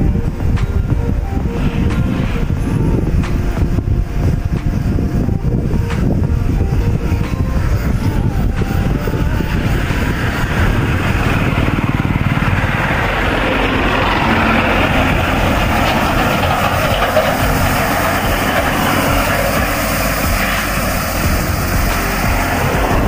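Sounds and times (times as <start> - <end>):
tractor engine running: 0.0 - 23.0
wind rumble on microphone: 0.0 - 23.0.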